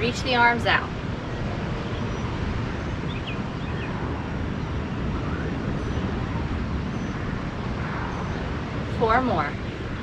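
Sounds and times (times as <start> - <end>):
ocean waves on beach: 0.0 - 10.0.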